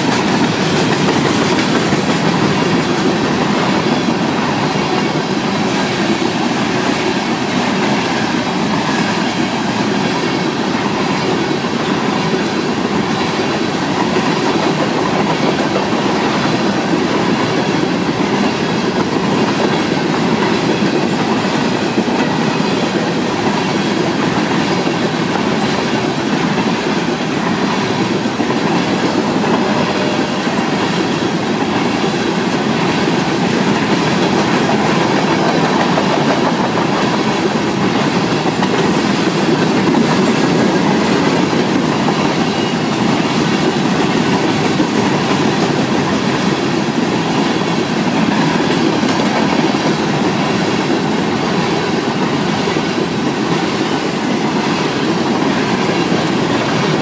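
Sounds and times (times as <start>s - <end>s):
freight train wheels clattering on rail: 0.0s - 57.0s.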